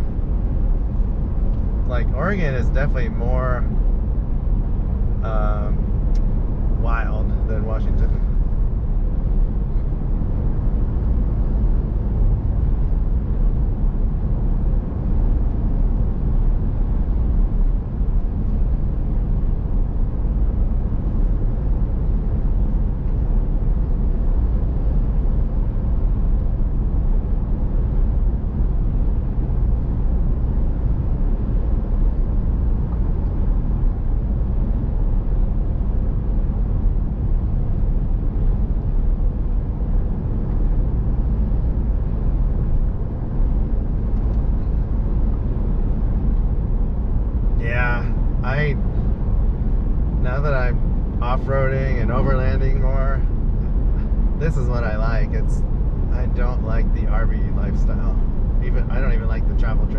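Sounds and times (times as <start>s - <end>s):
vehicle road noise: 0.0s - 59.9s.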